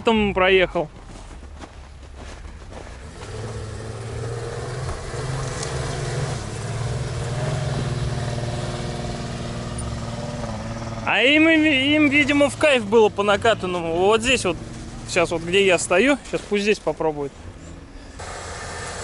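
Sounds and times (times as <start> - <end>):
engine pulling under load: 2.6 - 19.0.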